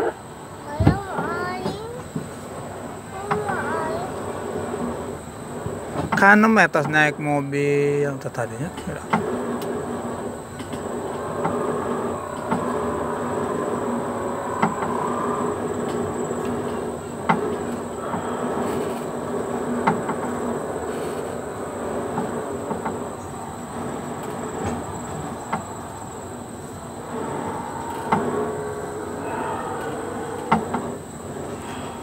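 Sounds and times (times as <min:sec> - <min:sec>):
small train running hum: 0:00.0 - 0:32.0
train wheels clacking: 0:00.7 - 0:32.0.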